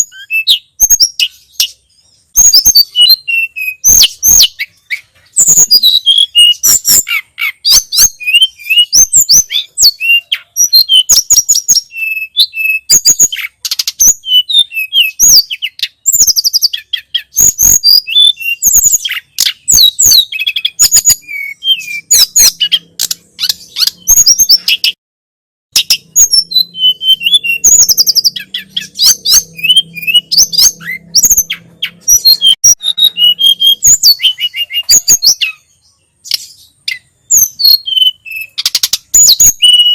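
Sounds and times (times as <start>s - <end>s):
songbird chirping and whistling: 0.0s - 25.0s, 25.7s - 39.9s.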